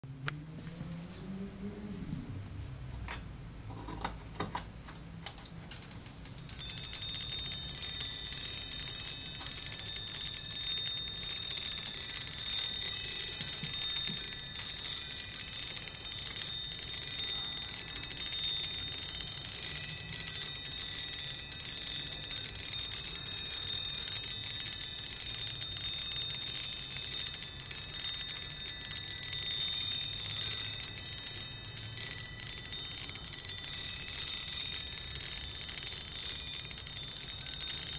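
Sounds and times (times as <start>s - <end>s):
brass chime rods tinkling: 5.8s - 37.9s.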